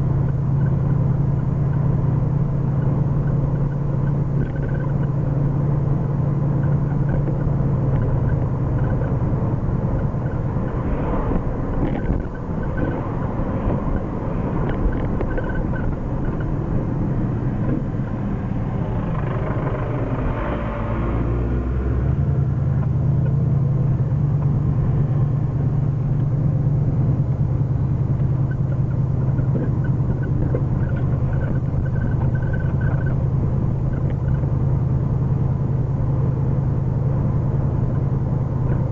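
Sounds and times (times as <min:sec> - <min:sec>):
car engine running: 0:00.0 - 0:38.9
road noise: 0:00.0 - 0:38.9.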